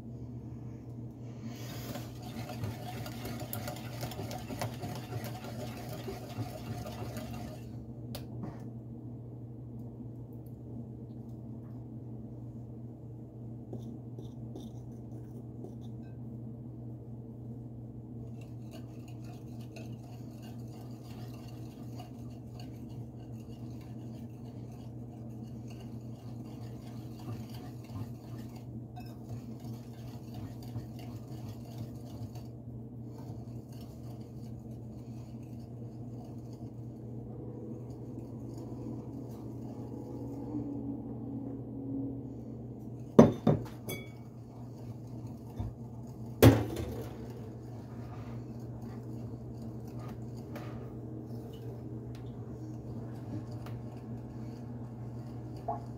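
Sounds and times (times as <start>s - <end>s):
steady low hum: 0.0s - 55.9s
hand mixing dough in glass bowl: 1.4s - 7.9s, 13.4s - 40.8s, 42.8s - 55.9s.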